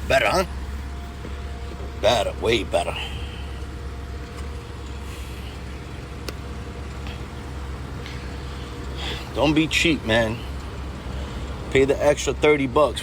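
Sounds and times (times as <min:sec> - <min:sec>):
faint hum: 0:00.0 - 0:13.0
low mechanical rumble: 0:00.0 - 0:13.0.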